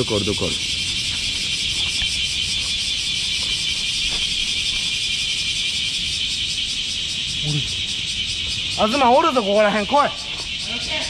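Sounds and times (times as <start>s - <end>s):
cicada song: 0.0s - 11.0s.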